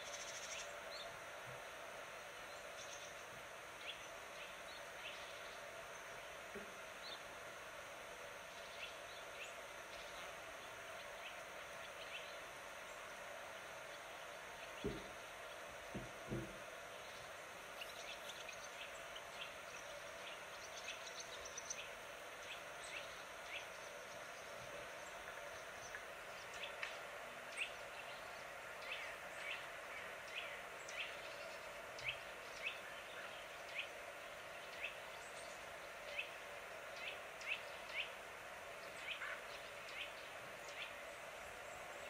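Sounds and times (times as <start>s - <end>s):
small birds chirping: 0.0s - 1.3s, 2.4s - 7.6s, 8.4s - 42.0s
outdoor background hiss: 0.0s - 42.0s.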